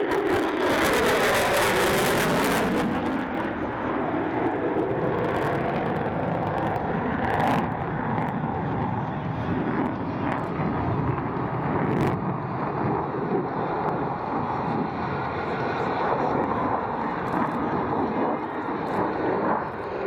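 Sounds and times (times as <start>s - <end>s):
jet engine rumble overhead: 0.0s - 20.0s.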